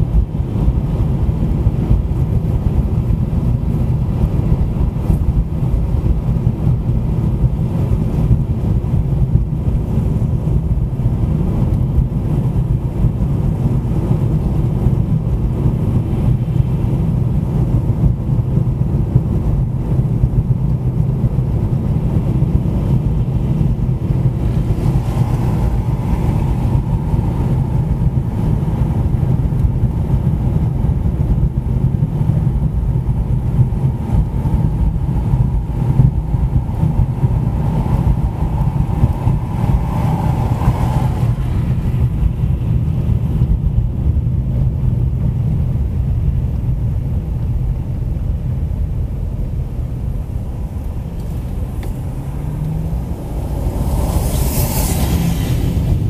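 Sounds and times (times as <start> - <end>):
car engine and tyre road noise: 0.0 - 56.0.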